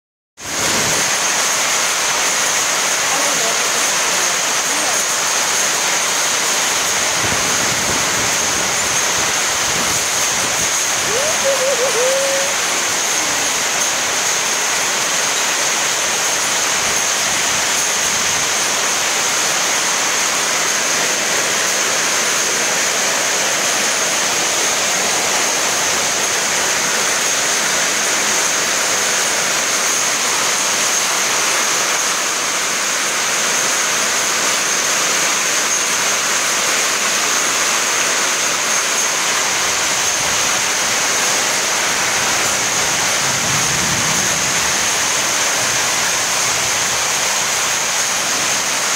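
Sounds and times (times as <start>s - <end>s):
heavy rain pouring on paving: 0.4s - 48.9s
running water: 0.4s - 48.9s.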